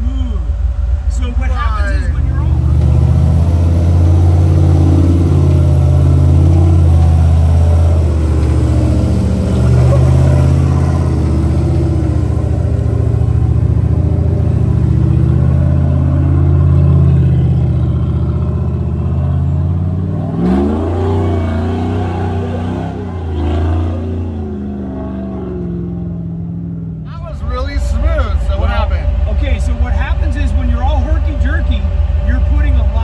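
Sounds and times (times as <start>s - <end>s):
engine running at low revs: 0.0s - 33.0s.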